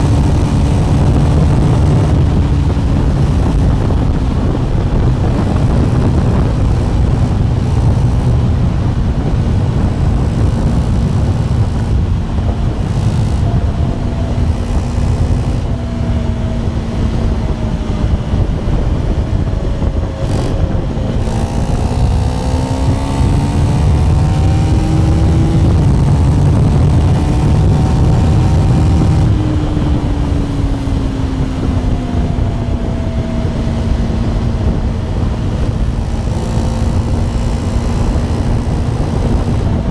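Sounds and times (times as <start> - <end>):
heavy wind rush: 0.0 - 39.9
motorcycle engine accelerating: 0.0 - 39.9.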